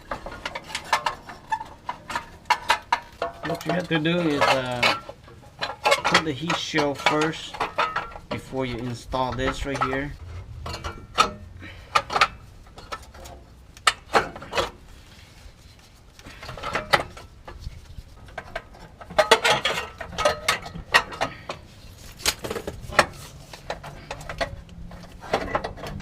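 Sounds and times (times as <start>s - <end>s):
metal clanks of tools: 0.0s - 14.8s, 16.2s - 17.6s, 18.2s - 26.0s.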